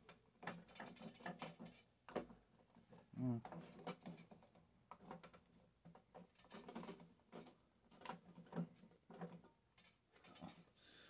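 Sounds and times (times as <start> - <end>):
hands clicking and tapping parts: 0.0 - 10.6.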